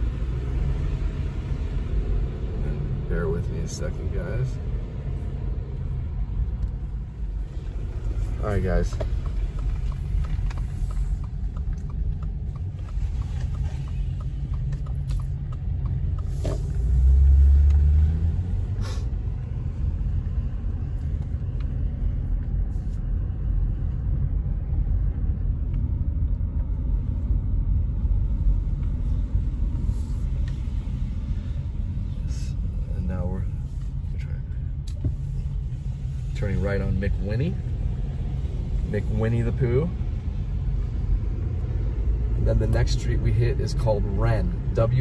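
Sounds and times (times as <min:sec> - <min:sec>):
car rumbling on paved road: 0:00.0 - 0:45.0.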